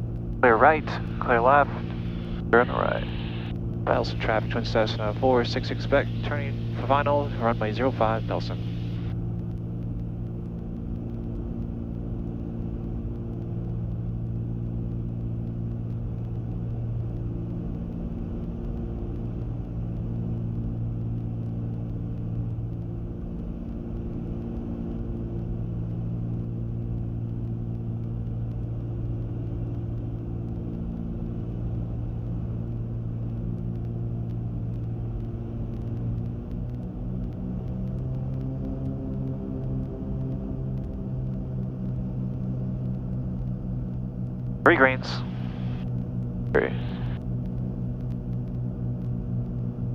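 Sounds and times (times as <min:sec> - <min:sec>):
propeller plane engines droning: 0:00.0 - 0:49.9.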